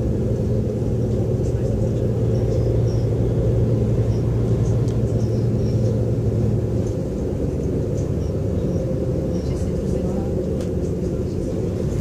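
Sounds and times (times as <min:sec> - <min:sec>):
low drone: 0:00.0 - 0:12.0
railcar engine and wheels rumble: 0:00.0 - 0:12.0.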